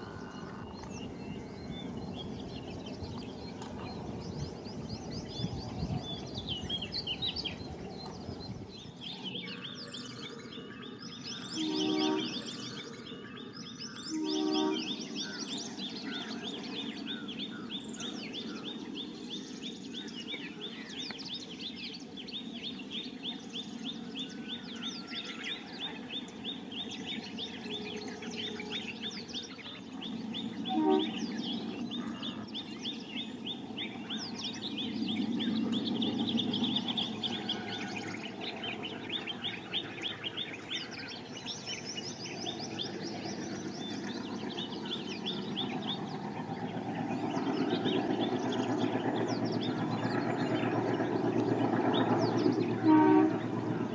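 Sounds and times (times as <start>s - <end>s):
distant train rumbling: 0.0s - 10.3s, 11.2s - 53.9s
birds chirping: 0.0s - 53.9s.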